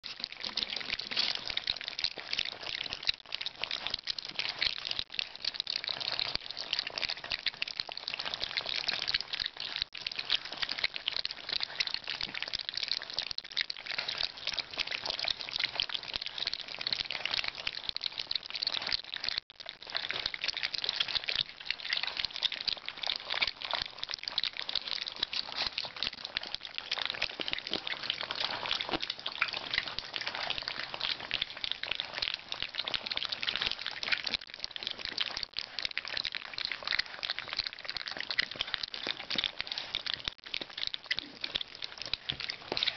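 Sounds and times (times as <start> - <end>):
puppies eating: 0.0 - 42.9.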